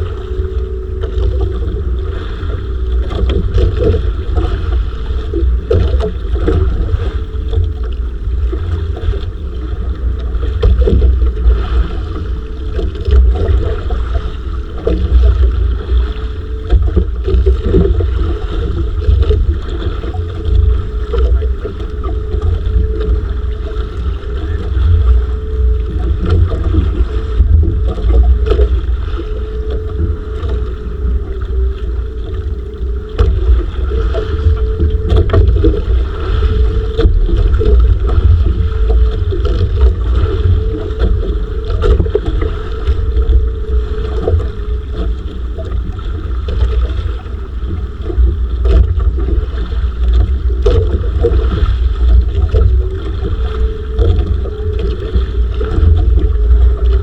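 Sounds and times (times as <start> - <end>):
steady hum: 0.0 - 57.0
wind buffeting microphone: 0.0 - 57.0.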